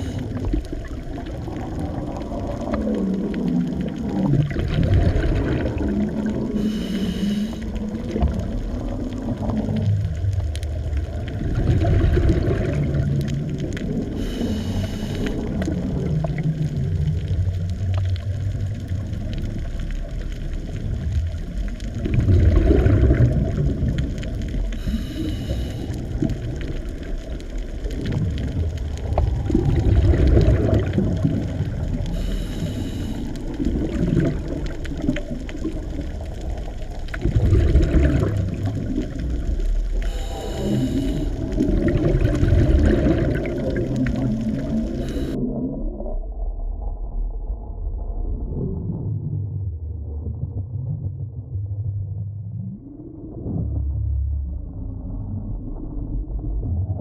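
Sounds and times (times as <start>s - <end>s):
underwater wash of water: 0.0s - 57.0s.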